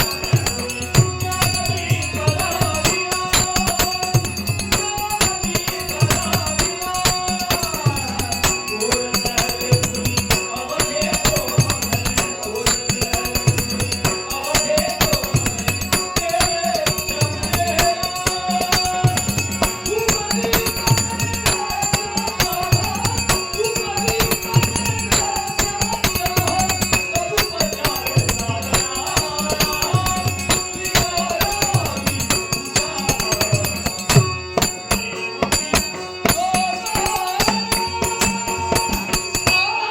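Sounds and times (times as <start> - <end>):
drum strokes: 0.0 - 39.8
jingling percussion: 0.0 - 39.9
person singing devotional song: 0.0 - 39.9.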